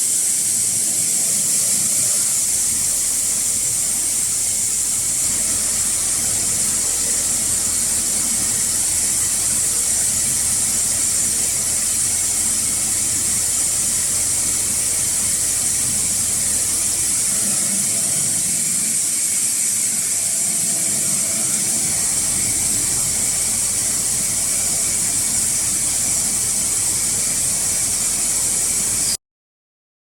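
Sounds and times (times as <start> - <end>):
wire saw high-pitched hiss: 0.0 - 29.2.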